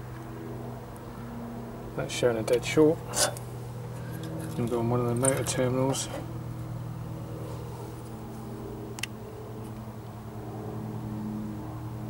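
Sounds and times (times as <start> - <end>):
low machine hum with pitched tones: 0.0 - 12.0.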